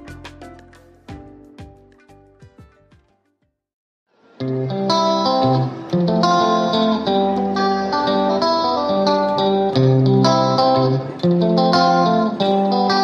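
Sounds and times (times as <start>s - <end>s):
plucked guitar melody: 0.0s - 3.3s, 4.4s - 13.0s.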